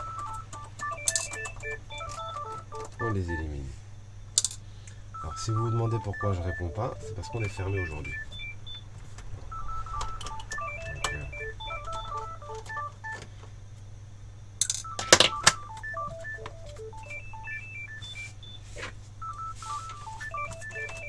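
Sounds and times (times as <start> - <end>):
telephone ringing melody: 0.0 - 3.6, 5.2 - 8.8, 9.4 - 13.2, 14.7 - 21.0.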